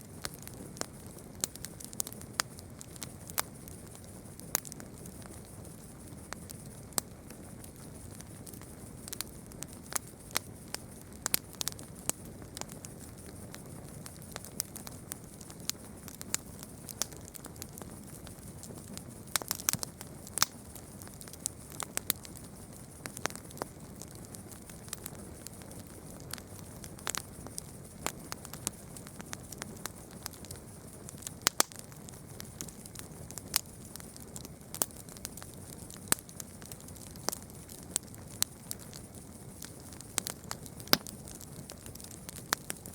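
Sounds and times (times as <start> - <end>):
burning wood crackling: 0.0 - 42.9.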